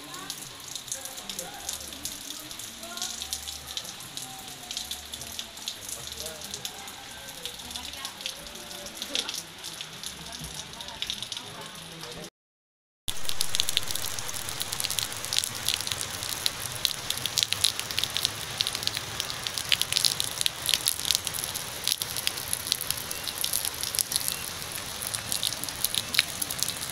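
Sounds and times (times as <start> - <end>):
rain splashing into puddle: 0.0 - 12.3, 13.1 - 26.9.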